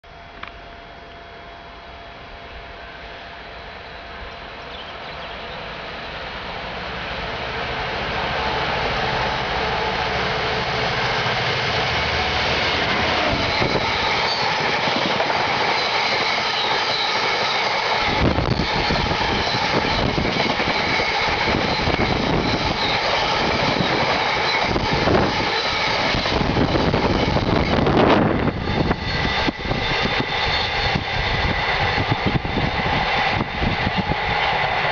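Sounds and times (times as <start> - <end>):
diesel locomotive engine: 0.0 - 34.9.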